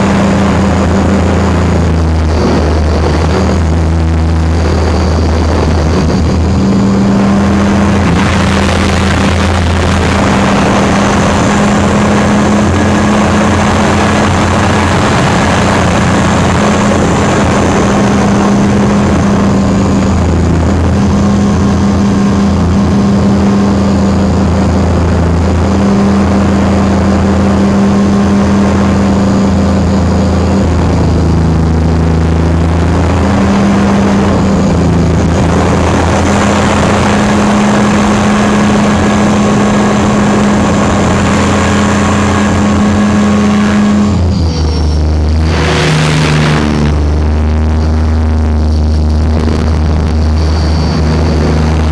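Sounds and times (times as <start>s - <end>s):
rc helicopter rotor drone: 0.0s - 51.9s
rushing air noise: 0.0s - 51.9s.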